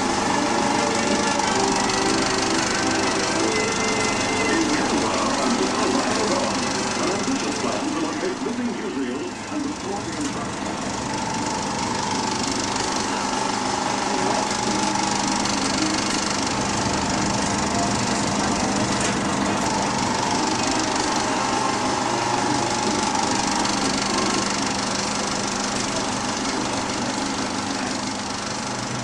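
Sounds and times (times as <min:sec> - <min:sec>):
film projector clattering: 0:00.0 - 0:29.0
projector hum: 0:00.0 - 0:29.0.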